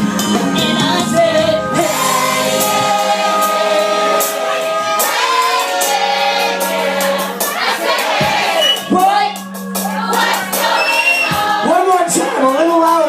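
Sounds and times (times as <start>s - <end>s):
voices singing long notes: 0.0s - 12.6s
bass line: 0.0s - 13.0s.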